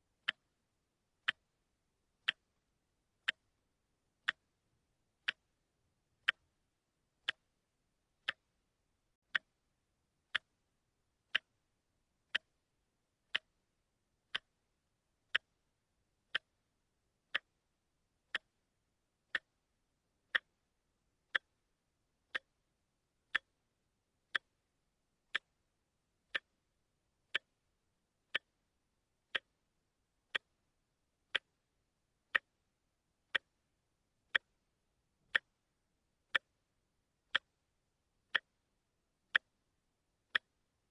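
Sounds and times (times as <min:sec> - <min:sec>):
wristwatch ticking: 0:00.2 - 0:00.6, 0:01.2 - 0:06.6, 0:07.2 - 0:07.6, 0:08.2 - 0:08.6, 0:09.2 - 0:09.6, 0:10.3 - 0:10.6, 0:11.2 - 0:11.7, 0:12.3 - 0:21.7, 0:22.3 - 0:23.6, 0:24.3 - 0:40.9.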